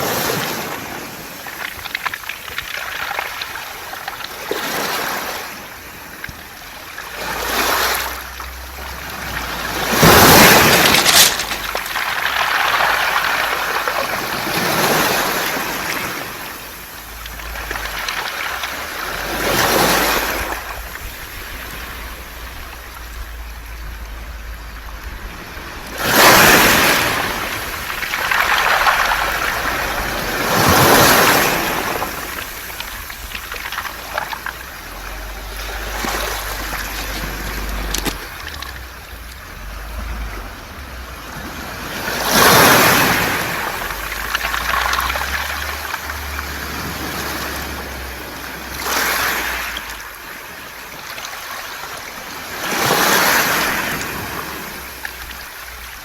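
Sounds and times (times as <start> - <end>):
pebbles clattering in surf: 0.0 - 23.4, 24.6 - 40.3, 41.5 - 50.3
waves washing over pebbles: 0.0 - 56.0.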